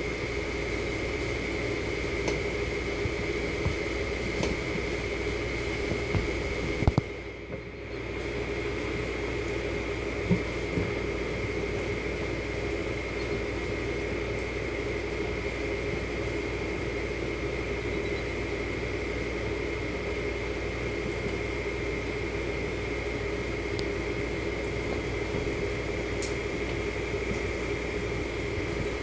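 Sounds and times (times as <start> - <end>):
machine hum with high whine: 0.0 - 29.0.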